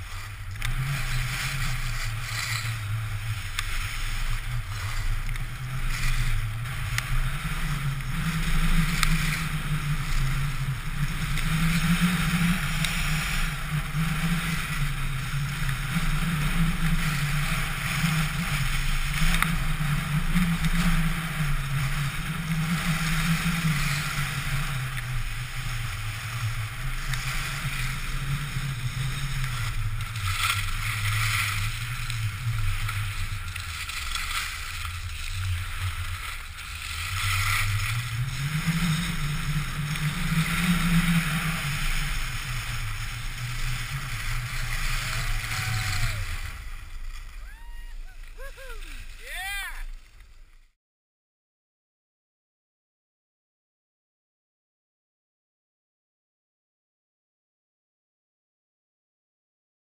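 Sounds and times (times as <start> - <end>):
skis carving on packed snow: 0.0 - 50.8.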